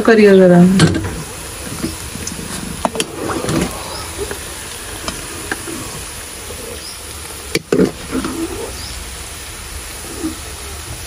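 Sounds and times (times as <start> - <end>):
vegetable slices sizzling in oil: 0.0 - 11.0.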